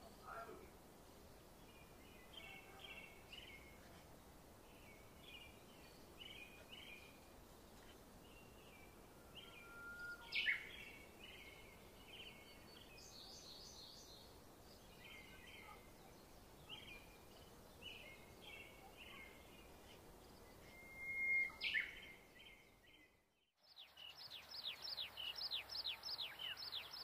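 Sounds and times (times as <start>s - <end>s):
faint steady hiss: 0.0s - 23.0s, 23.6s - 27.0s
small birds chirping: 0.0s - 27.0s.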